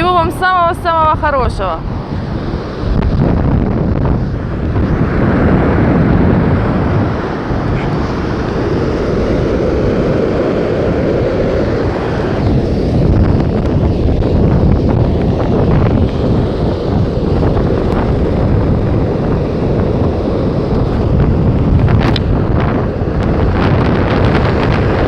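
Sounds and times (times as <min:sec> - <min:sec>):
gusty wind on microphone: 0:00.0 - 0:25.0
stormy sea surf: 0:00.0 - 0:25.0.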